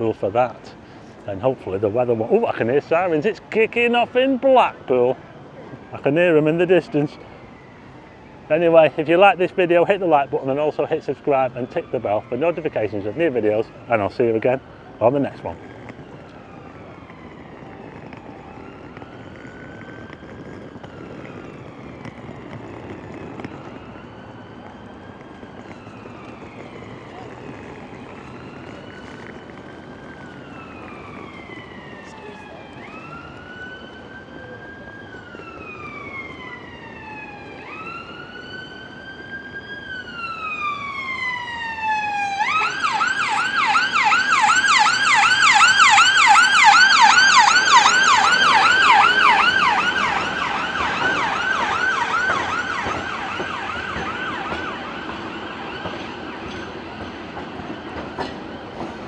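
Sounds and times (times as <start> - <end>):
emergency siren wailing and yelping: 2.2 - 59.0.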